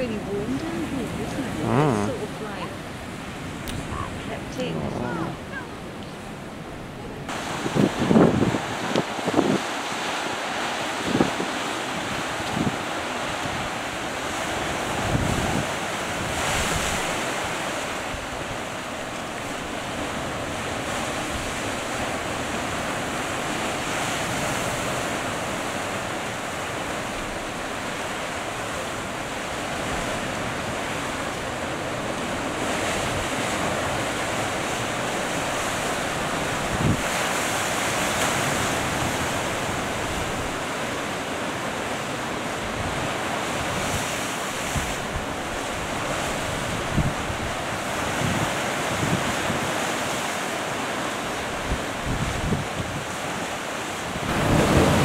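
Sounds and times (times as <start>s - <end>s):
wind buffeting microphone: 0.0s - 40.8s, 42.6s - 50.0s, 51.4s - 53.4s, 54.1s - 55.0s
sea surf breaking over rocks: 0.0s - 55.0s.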